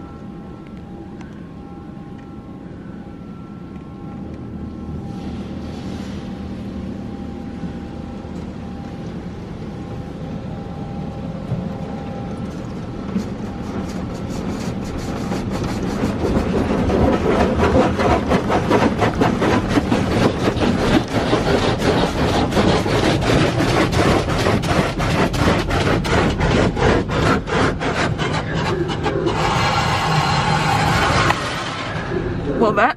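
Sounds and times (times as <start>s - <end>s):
car wash machine rumble: 4.5s - 32.9s.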